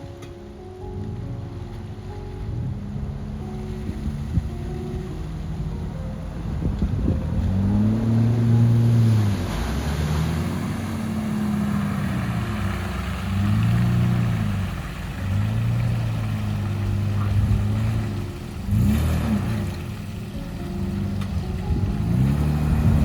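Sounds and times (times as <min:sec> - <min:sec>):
vehicle engine revving: 0:02.0 - 0:23.0.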